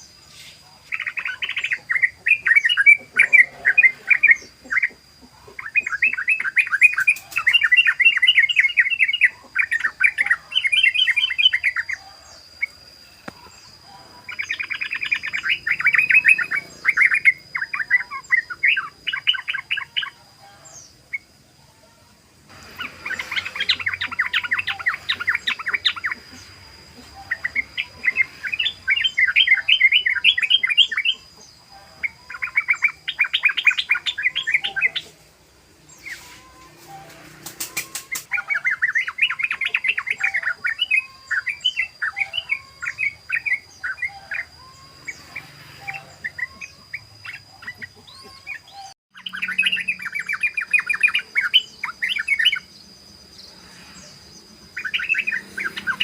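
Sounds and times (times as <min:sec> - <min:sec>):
bird singing chattering bouts: 0:00.0 - 0:56.0.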